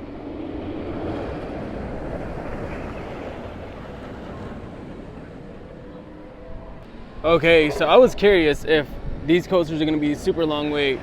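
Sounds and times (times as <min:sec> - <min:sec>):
roller coaster train roaring: 0:00.0 - 0:11.0.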